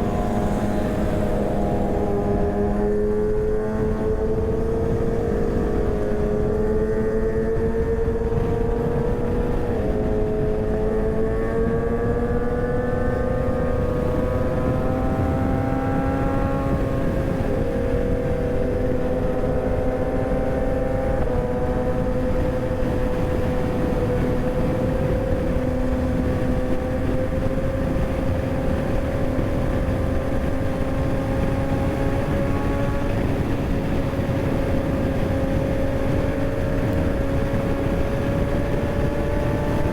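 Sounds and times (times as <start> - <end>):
motorcycle engine at high revs: 0.0 - 39.9
wind rush on microphone: 0.0 - 39.9.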